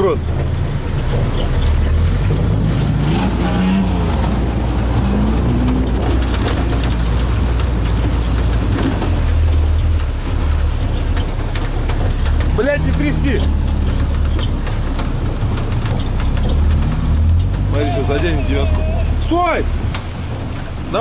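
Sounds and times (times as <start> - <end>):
diesel engine running: 0.0 - 21.0
vehicle wading through water: 0.0 - 21.0.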